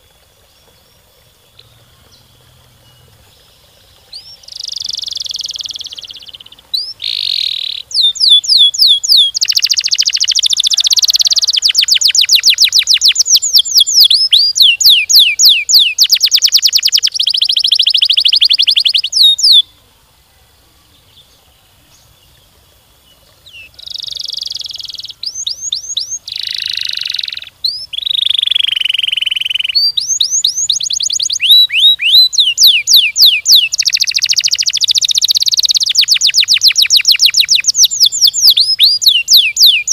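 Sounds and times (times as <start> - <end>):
canary singing trills: 1.6 - 19.7, 23.4 - 39.9.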